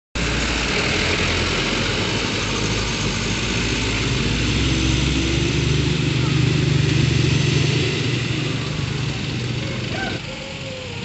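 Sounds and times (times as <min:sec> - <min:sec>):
truck diesel engine running: 0:00.2 - 0:11.0.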